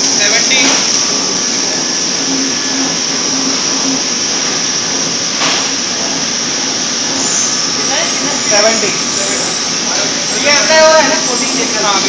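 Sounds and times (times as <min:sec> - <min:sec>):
machine hiss and whir: 0:00.0 - 0:12.0.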